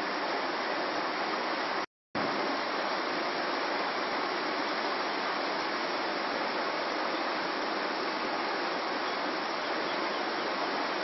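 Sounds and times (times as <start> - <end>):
river water flowing over rocks: 0.0 - 11.0.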